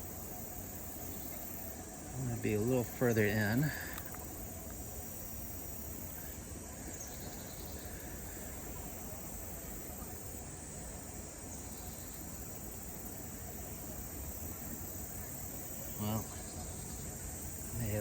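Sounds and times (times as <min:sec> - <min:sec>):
insects buzzing chorus: 0:00.0 - 0:18.0
low background hiss: 0:00.0 - 0:18.0.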